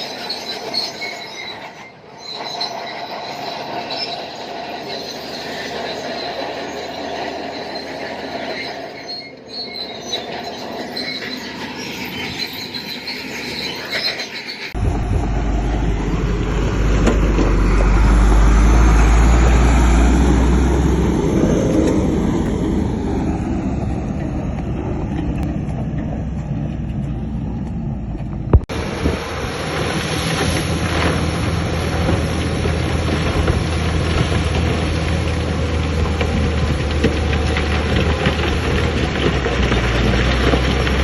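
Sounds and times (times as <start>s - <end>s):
machinery clattering and grinding: 0.0s - 41.0s
diesel engine drone: 1.9s - 13.8s, 14.7s - 41.0s.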